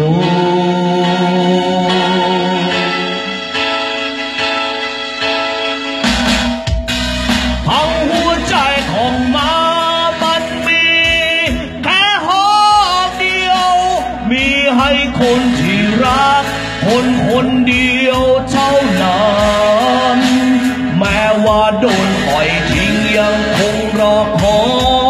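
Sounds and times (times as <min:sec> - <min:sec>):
man singing into microphone: 0:00.0 - 0:03.8, 0:07.6 - 0:25.0
backing music track: 0:00.0 - 0:25.0.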